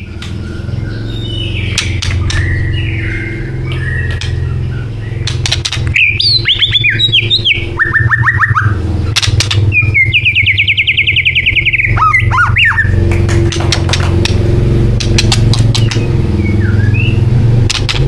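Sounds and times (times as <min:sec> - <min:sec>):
bird singing whistled notes and trills: 0:00.0 - 0:18.0
steady low hum: 0:00.0 - 0:18.0.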